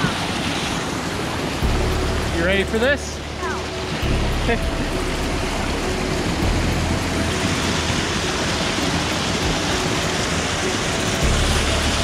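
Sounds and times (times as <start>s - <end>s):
white water rushing: 0.0s - 12.0s.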